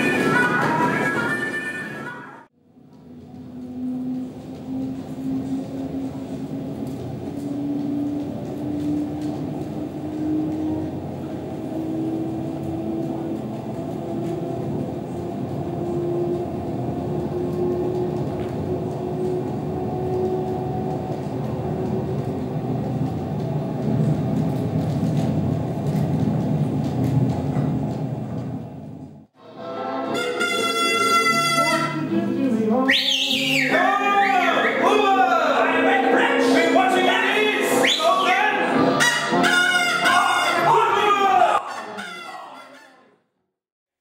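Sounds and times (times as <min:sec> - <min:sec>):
train rumbling: 0:00.0 - 0:42.6.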